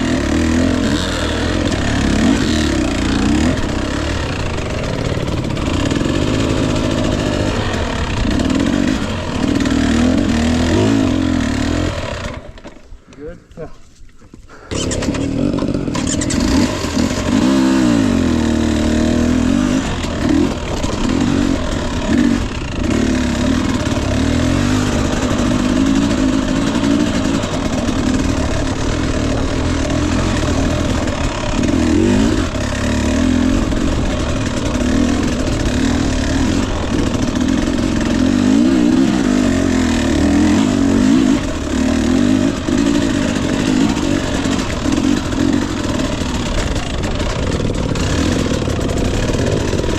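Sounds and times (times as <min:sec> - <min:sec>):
dirt bike engine revving: 0:00.0 - 0:12.8, 0:14.5 - 0:49.9.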